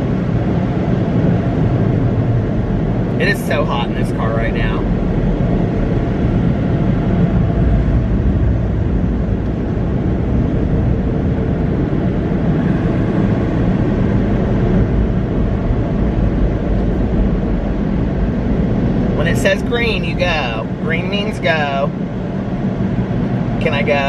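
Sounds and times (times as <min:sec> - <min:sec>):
car wash air dryers blowing: 0:00.0 - 0:24.0.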